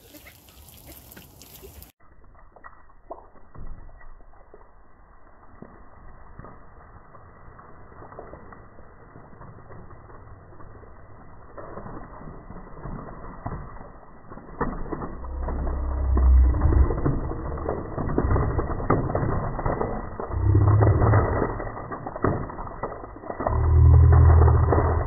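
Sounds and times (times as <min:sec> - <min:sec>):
low rumble: 0:04.2 - 0:25.0.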